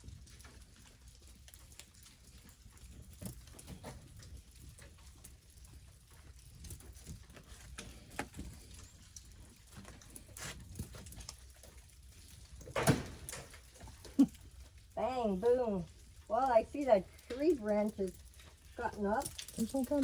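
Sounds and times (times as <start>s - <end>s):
ice pieces pattering and ticking: 0.0s - 20.0s.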